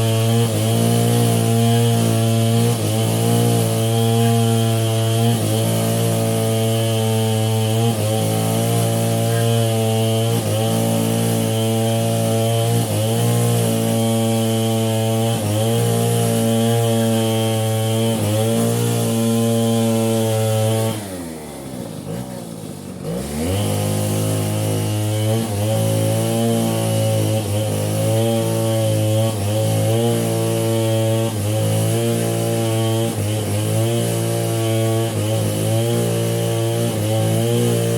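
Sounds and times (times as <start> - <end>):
chainsaw engine running: 0.0 - 37.9.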